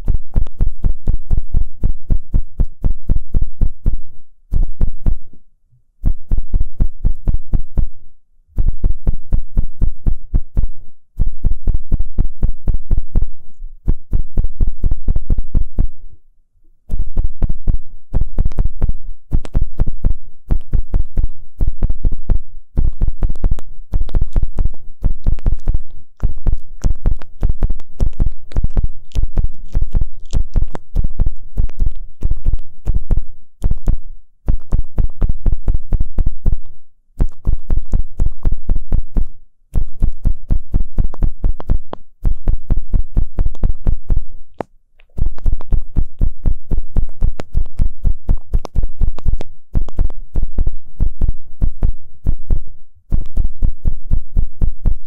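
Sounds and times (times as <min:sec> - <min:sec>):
ear pick scratching microphone: 0:00.0 - 0:05.4, 0:06.0 - 0:16.0, 0:16.8 - 0:55.0.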